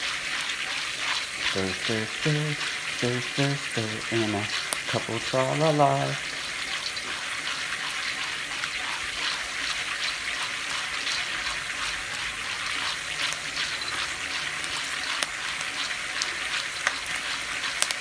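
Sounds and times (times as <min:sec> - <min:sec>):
kernels sizzling in hot fat: 0:00.0 - 0:18.0.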